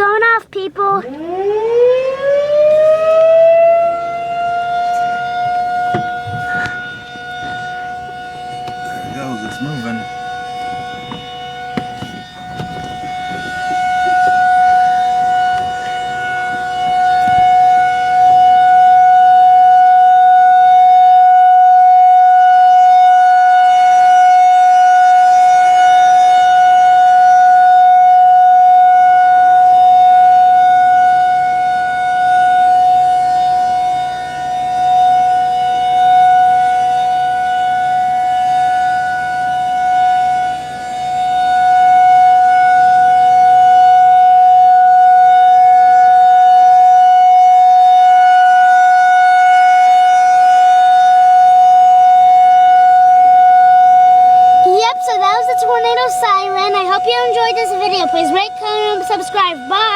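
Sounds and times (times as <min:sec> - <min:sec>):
rotating warning siren: 0:00.0 - 0:59.9.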